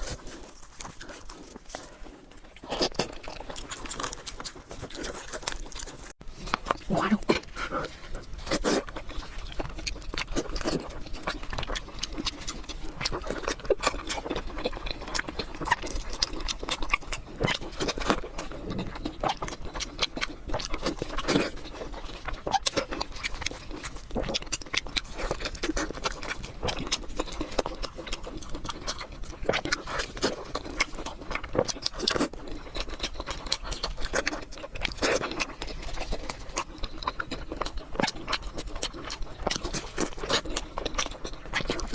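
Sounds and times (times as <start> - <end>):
close chewing and smacking: 0.0 - 41.9.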